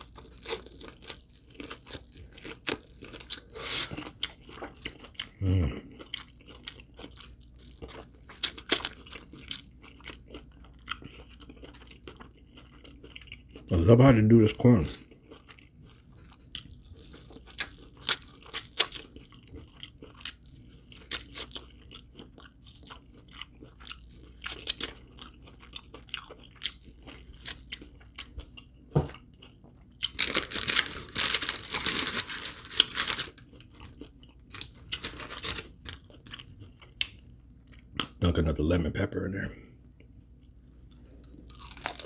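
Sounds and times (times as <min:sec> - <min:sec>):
person chewing and crunching: 0:00.0 - 0:38.2, 0:40.0 - 0:42.0.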